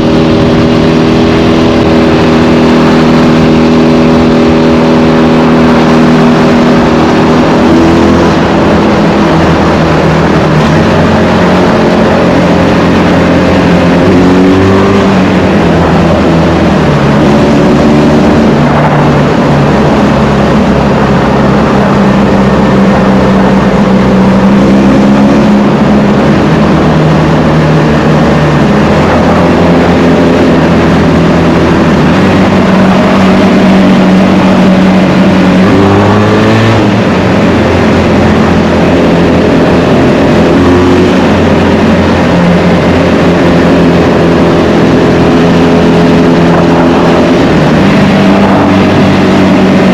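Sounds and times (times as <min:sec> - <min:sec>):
motorcycle engine revving in tunnel: 0:00.0 - 0:49.9.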